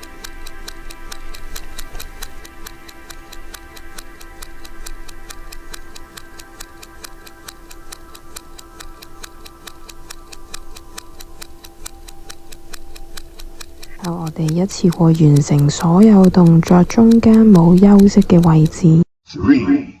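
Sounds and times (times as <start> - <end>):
fast even ticking: 0.0 - 19.1
background music: 0.0 - 19.7.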